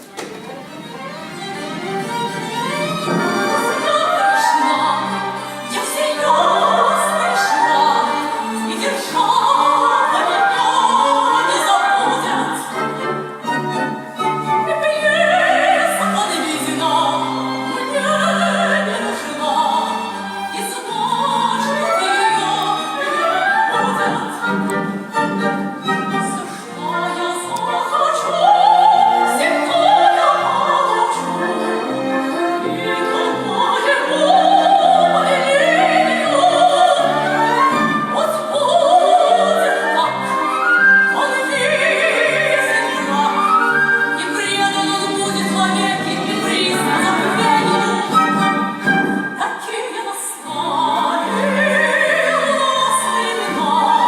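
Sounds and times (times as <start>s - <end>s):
orchestral accompaniment: 0.0s - 54.0s
operatic singing voice: 3.0s - 13.0s, 14.5s - 24.9s, 26.1s - 54.0s.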